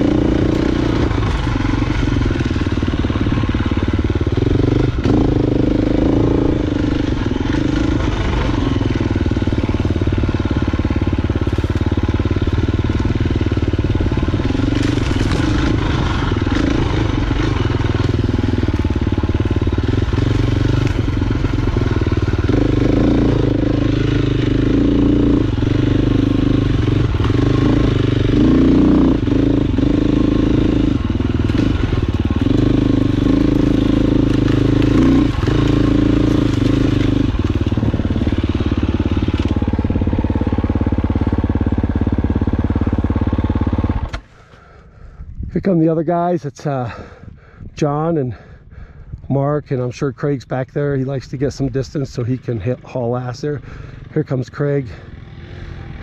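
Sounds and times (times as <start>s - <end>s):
dirt bike engine revving: 0.0s - 44.3s, 50.9s - 56.0s.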